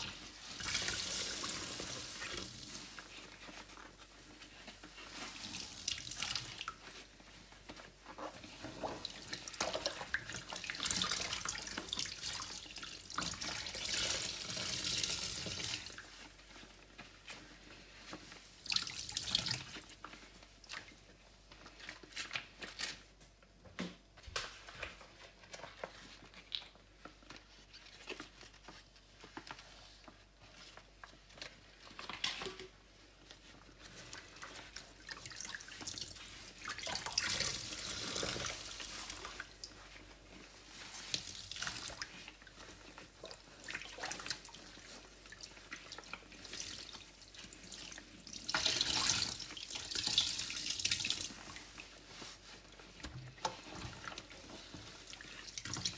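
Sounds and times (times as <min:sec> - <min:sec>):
sponge squelching: 0:00.0 - 0:22.9, 0:25.4 - 0:55.9.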